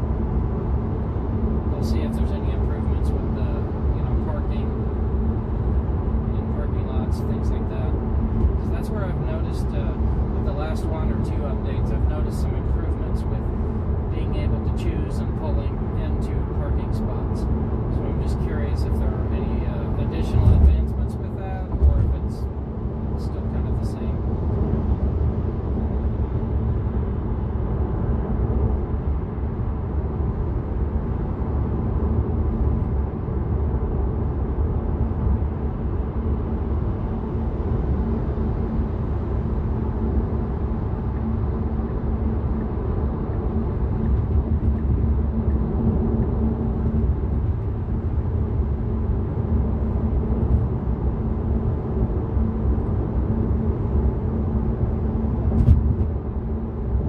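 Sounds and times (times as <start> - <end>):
faint steady hum: 0.0 - 57.0
road and tyre rumble: 0.0 - 57.0.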